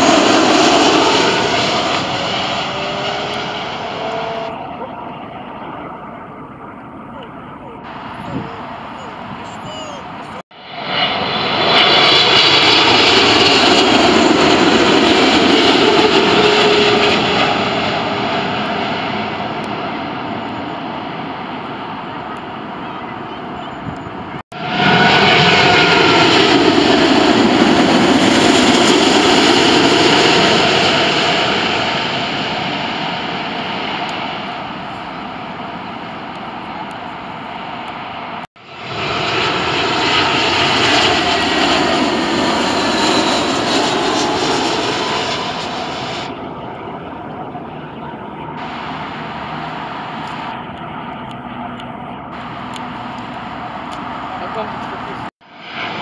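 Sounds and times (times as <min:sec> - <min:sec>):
jet airliner passing low: 0:00.0 - 0:56.0.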